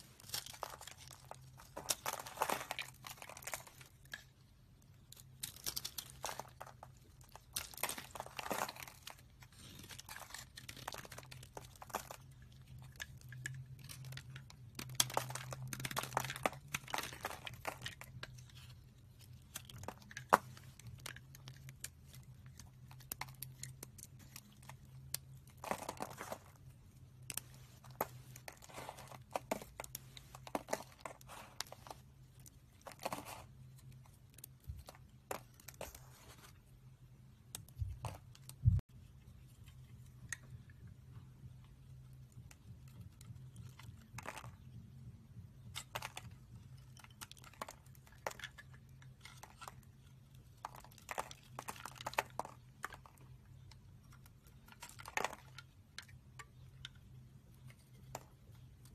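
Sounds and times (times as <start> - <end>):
soap cubes crumbling and crackling: 0.0 - 38.9, 41.8 - 58.9.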